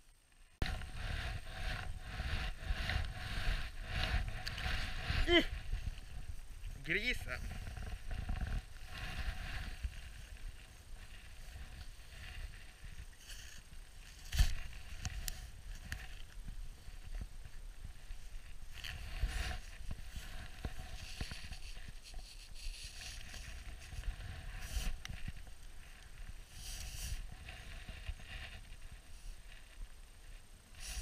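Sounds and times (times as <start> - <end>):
rustling of gloves and jacket: 0.6 - 31.0
wind rumble on microphone: 0.6 - 31.0.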